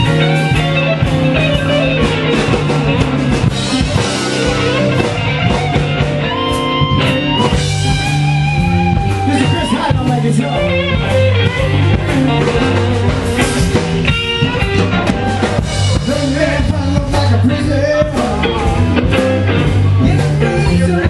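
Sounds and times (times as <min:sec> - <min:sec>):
bending guitar notes: 0:00.0 - 0:21.0
live blues-rock band: 0:00.0 - 0:21.0.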